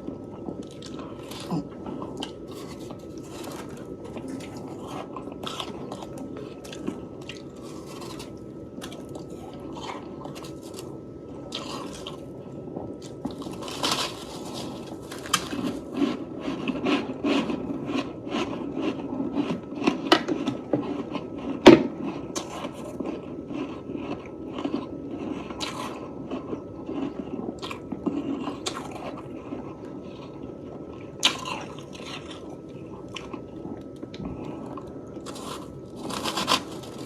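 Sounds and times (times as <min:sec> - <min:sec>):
chewing and crunching frost: 0:00.0 - 0:37.0.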